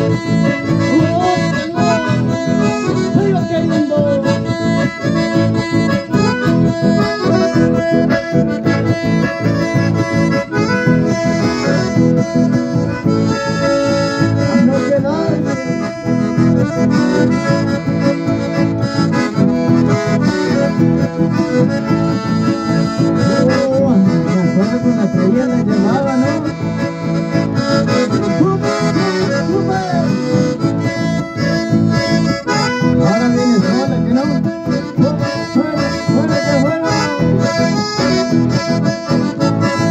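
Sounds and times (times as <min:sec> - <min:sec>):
accordions playing folk dance music: 0:00.0 - 0:39.9
acoustic guitar: 0:00.0 - 0:39.9.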